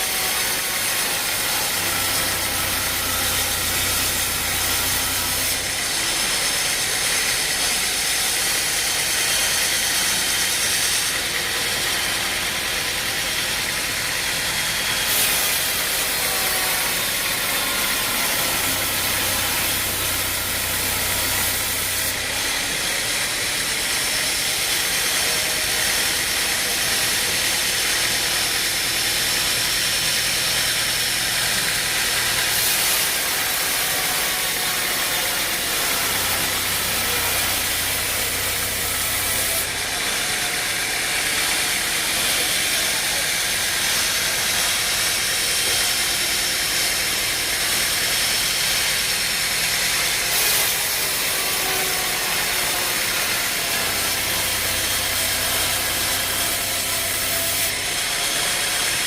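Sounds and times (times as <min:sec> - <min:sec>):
stump grinder running: 0:00.5 - 0:25.1, 0:25.9 - 0:59.0.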